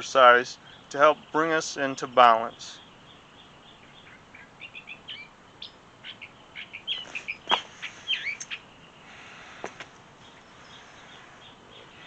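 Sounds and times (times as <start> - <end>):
swooping bird calls: 0.0 - 12.0
wild birds chirping: 0.0 - 12.0.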